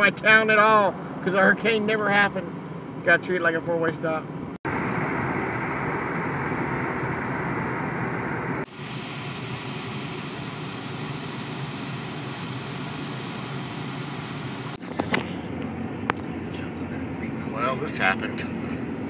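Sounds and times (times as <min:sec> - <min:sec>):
in-car road and engine noise: 0:00.0 - 0:19.0.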